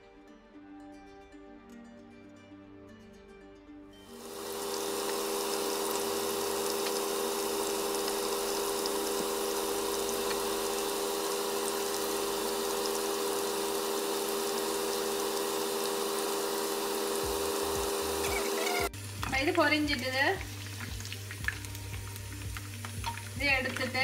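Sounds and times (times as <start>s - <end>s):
chicken sizzling in oil: 4.1s - 24.0s.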